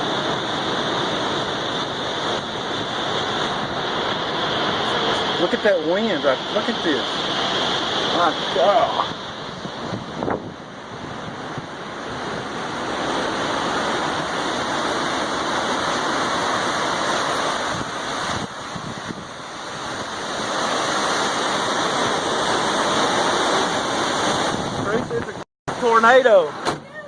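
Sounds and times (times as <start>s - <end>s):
storm wind gusting: 0.0s - 27.0s.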